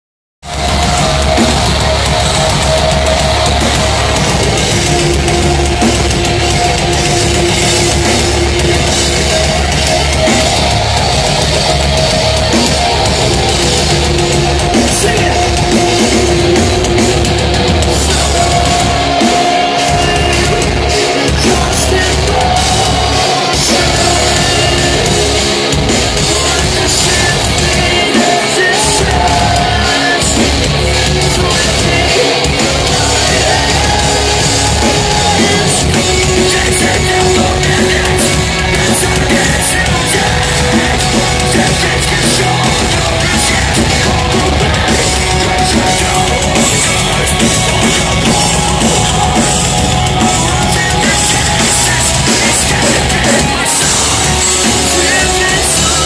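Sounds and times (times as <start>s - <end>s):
bass: 0.4s - 56.0s
drums: 0.4s - 56.0s
heavy distorted guitars: 0.4s - 56.0s.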